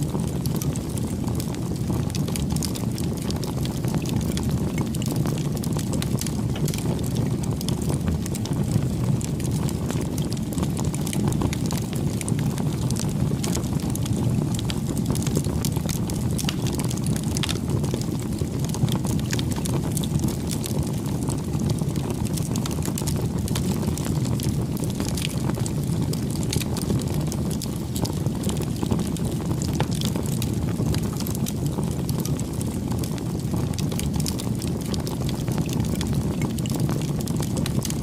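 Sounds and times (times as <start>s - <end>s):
bonfire crackling and popping: 0.0s - 38.0s.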